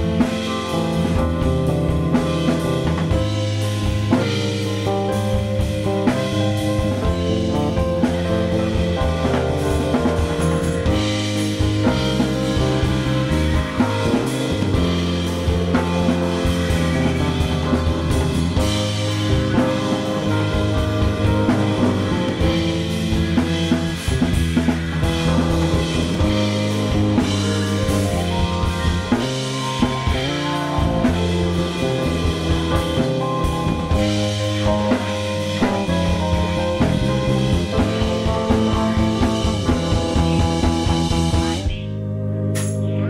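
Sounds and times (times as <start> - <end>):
drum kit: 0.0 - 43.0
electric bass line: 0.0 - 43.0.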